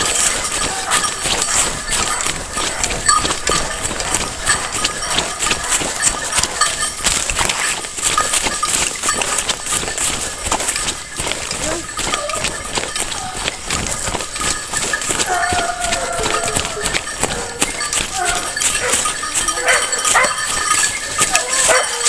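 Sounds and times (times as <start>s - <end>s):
dry bracken crackling and rustling: 0.0s - 22.0s
footsteps: 0.0s - 22.0s.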